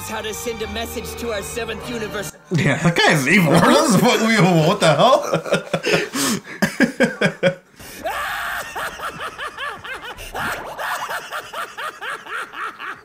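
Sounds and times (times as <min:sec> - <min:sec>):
men laughing: 0:02.5 - 0:13.0.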